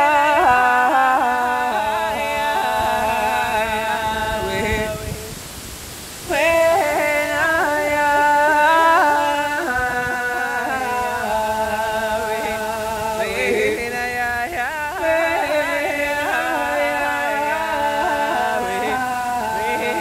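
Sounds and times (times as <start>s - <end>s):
woman singing wordless melody: 0.0s - 20.0s.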